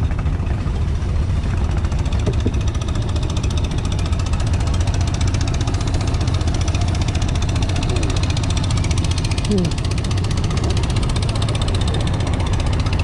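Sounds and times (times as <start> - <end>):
small boat engine knocking: 0.0 - 13.0.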